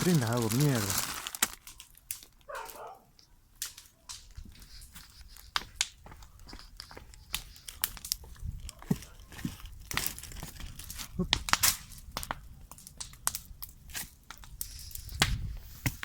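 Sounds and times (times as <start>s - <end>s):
sharp snaps and crackles: 0.0s - 16.0s.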